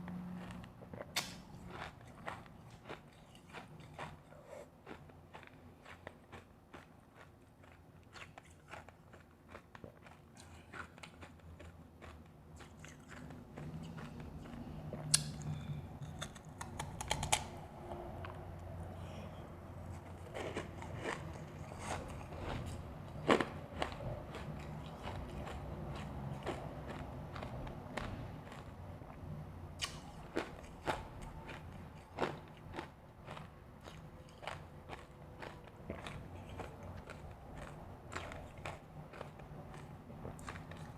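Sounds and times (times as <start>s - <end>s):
chewing powdery ice: 0.0s - 17.5s, 19.0s - 29.2s, 29.8s - 40.9s.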